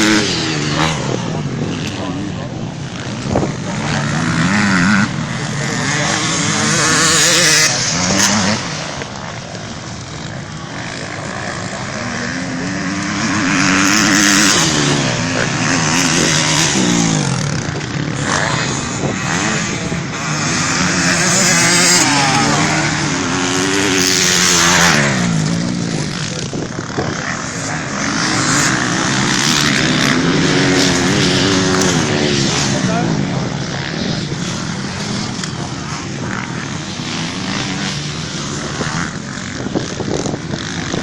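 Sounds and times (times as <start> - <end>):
motocross bikes revving: 0.0 - 41.0.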